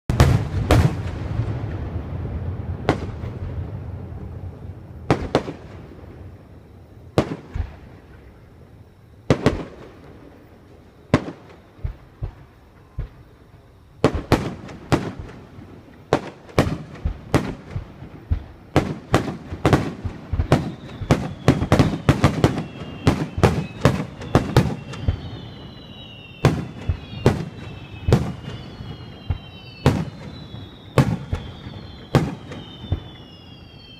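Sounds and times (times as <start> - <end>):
fireworks bangs: 0.1 - 8.5, 9.2 - 33.9
fireworks whistling: 0.1 - 33.9.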